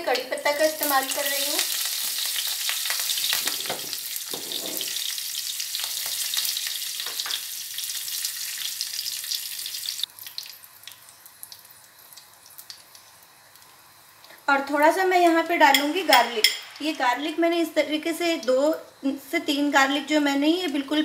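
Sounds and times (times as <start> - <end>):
spices sizzling in hot oil: 0.0 - 21.0.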